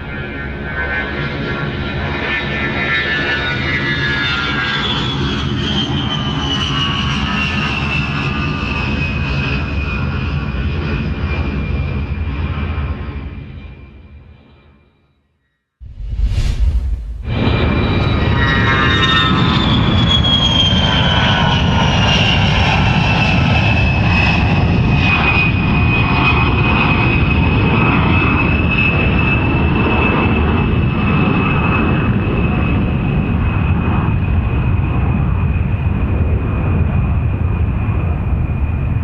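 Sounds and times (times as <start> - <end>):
airplane engine rumble and whine: 0.0 - 14.8, 15.9 - 39.0.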